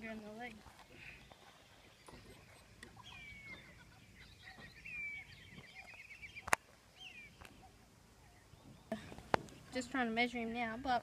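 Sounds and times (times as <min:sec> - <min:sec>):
birds calling: 0:00.0 - 0:10.8.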